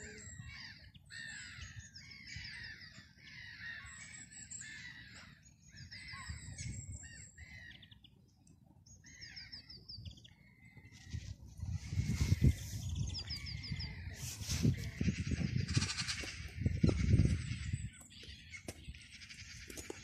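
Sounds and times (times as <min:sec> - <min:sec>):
birds chirping and trilling: 0:00.0 - 0:20.0.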